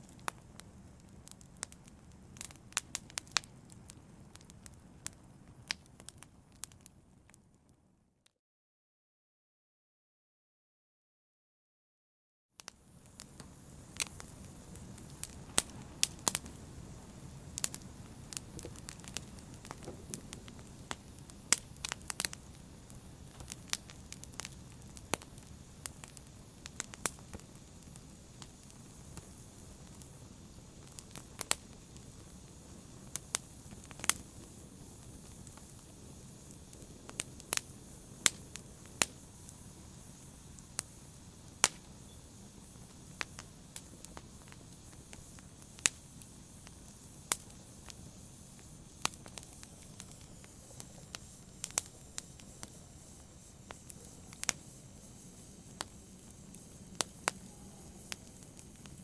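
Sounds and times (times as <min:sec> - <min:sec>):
low hiss of flames: 0:00.0 - 0:07.6, 0:12.6 - 0:59.0
fire crackling and popping: 0:00.0 - 0:07.9, 0:12.6 - 0:59.0.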